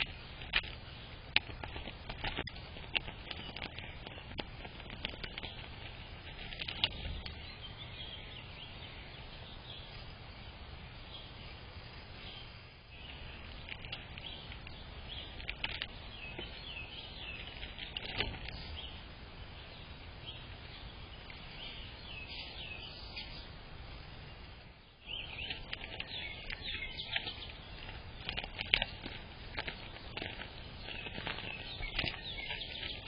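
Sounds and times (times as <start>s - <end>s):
low background rumble: 0.0s - 33.0s
small birds chirping: 0.0s - 33.0s.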